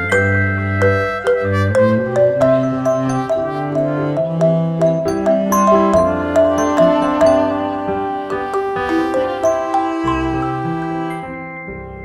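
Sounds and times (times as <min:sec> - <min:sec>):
gentle melody of struck notes: 0:00.0 - 0:12.0
held chords: 0:00.0 - 0:12.0.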